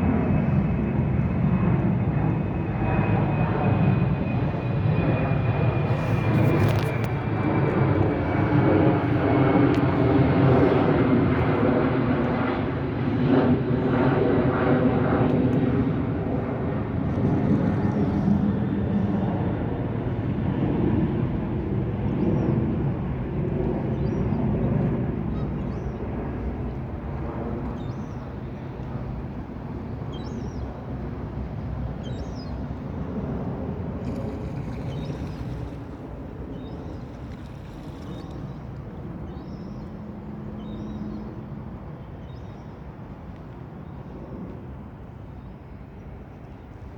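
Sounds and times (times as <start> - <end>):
aircraft engine passing over: 0.0 - 46.9.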